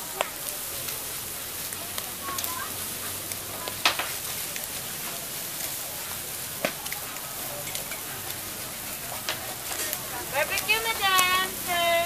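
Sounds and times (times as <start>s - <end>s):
skewers sizzling on a grill: 0.0s - 12.0s.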